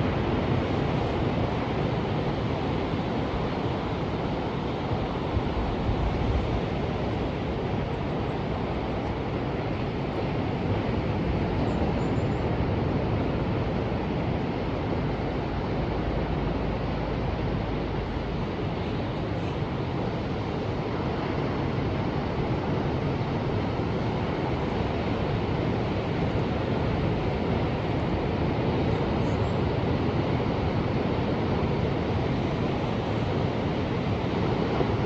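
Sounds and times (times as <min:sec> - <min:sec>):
ocean surf washing: 0:00.0 - 0:35.0
wind rumbling on microphone: 0:00.0 - 0:35.0.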